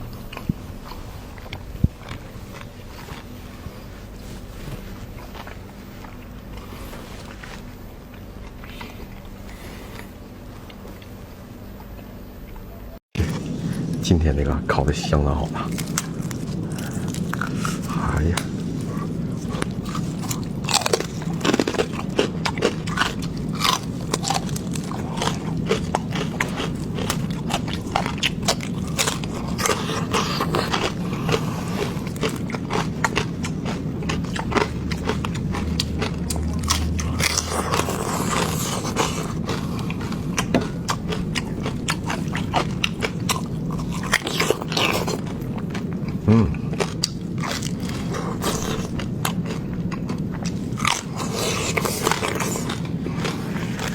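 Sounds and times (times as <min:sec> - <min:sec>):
person chewing crunchy pork fat: 0:00.0 - 0:11.2, 0:13.0 - 0:53.9.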